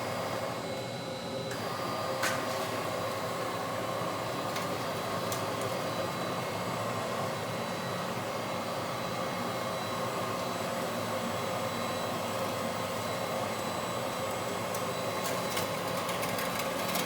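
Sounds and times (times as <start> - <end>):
vacuum cleaner motor whirring: 0.0 - 17.0.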